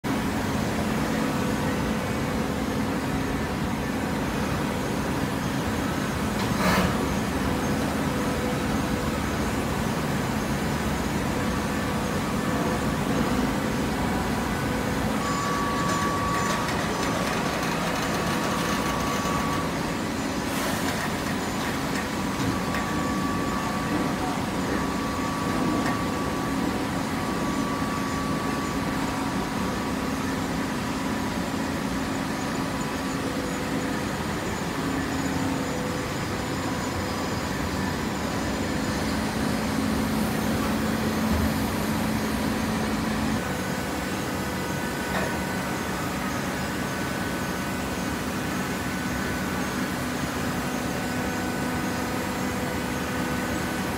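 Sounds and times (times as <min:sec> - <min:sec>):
baler machine hum: 0:00.1 - 0:53.9.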